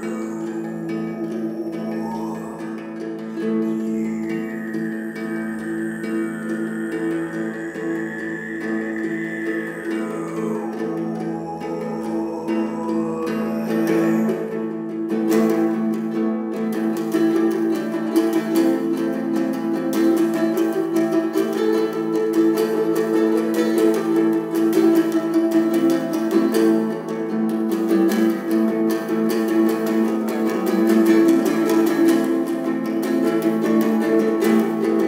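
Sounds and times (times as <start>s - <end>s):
fingerpicked nylon-string guitar: 0.0s - 35.0s.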